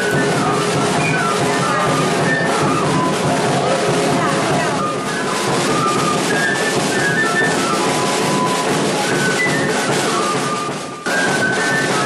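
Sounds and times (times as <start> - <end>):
music accompaniment: 0.0 - 12.0
whistle-like melody: 0.0 - 12.0.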